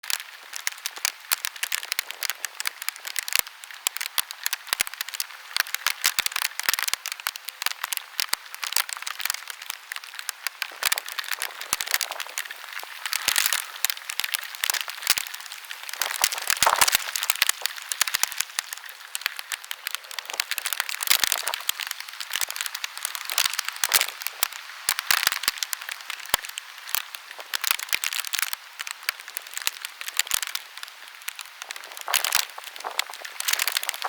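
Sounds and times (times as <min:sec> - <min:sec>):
raindrops pattering close: 0:00.0 - 0:34.0
steady rain hiss: 0:00.0 - 0:34.0.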